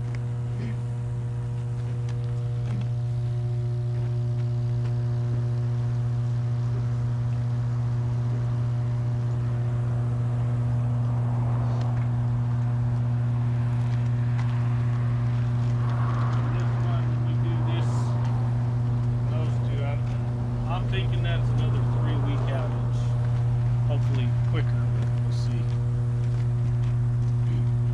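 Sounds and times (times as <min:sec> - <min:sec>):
transformer humming: 0:00.0 - 0:27.9.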